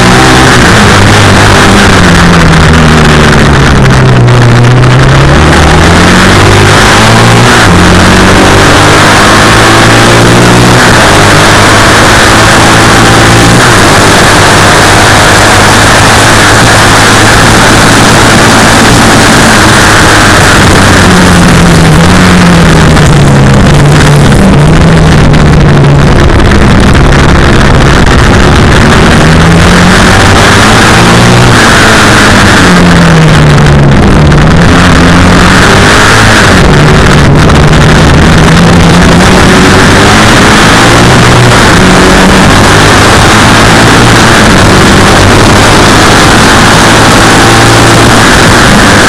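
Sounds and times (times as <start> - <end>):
racing engine revving: 0.0 - 49.0
wind noise: 0.0 - 49.0.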